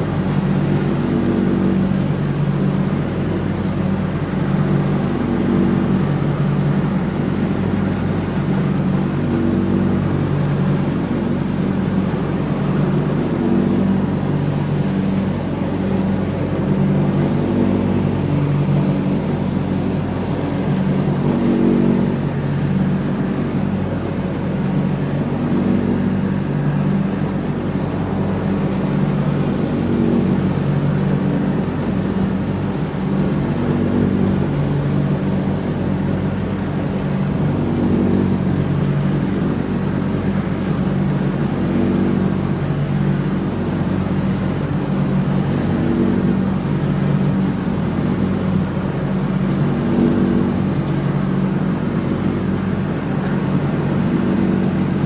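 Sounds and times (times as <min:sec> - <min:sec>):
lawn tractor engine mowing: 0:00.0 - 0:55.0.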